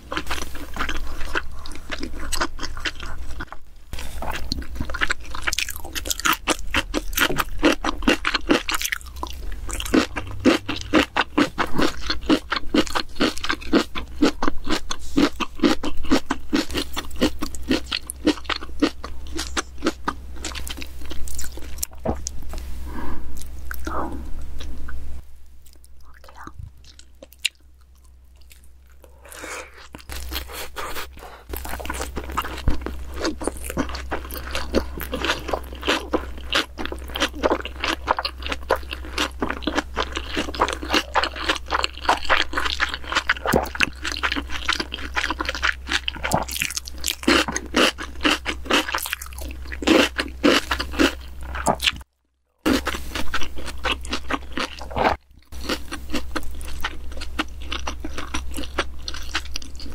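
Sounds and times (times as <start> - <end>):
wet crunchy chewing: 0.0 - 22.7, 25.6 - 52.0, 52.7 - 59.9.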